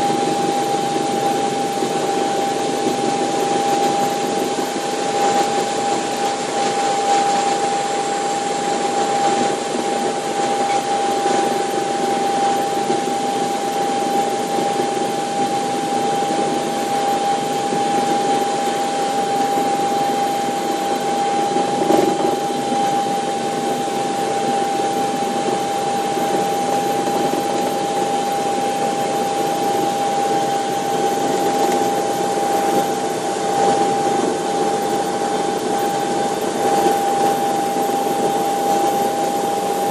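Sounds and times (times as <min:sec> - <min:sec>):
helicopter engine and rotor noise: 0:00.0 - 0:39.9
high whine: 0:00.0 - 0:39.9.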